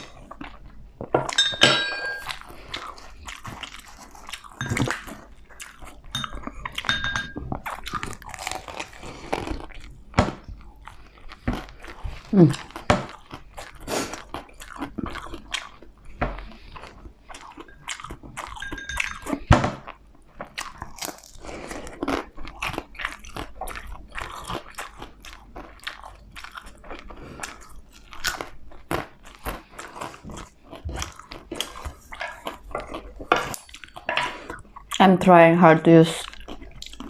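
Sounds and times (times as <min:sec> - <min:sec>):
person crunching food: 0:02.2 - 0:35.0, 0:36.2 - 0:37.0.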